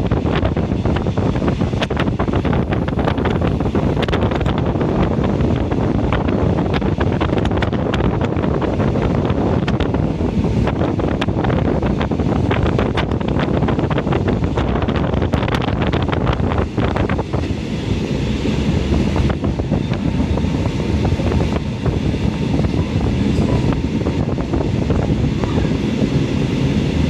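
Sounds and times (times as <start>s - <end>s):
train wheels rumbling on rails: 0.0s - 27.0s
wind buffeting microphone: 0.0s - 27.0s.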